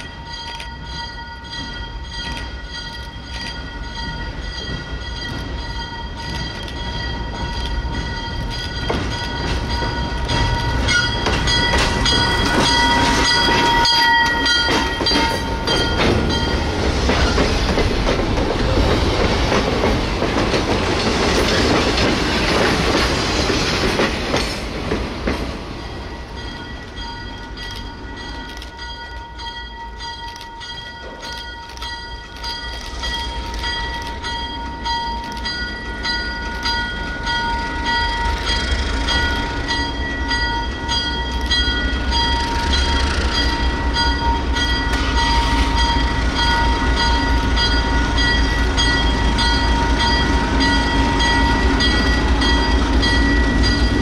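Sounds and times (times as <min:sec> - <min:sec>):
high-pitched locomotive whine: 0:00.0 - 0:54.0
steel wheels rushing on rail: 0:00.0 - 0:54.0.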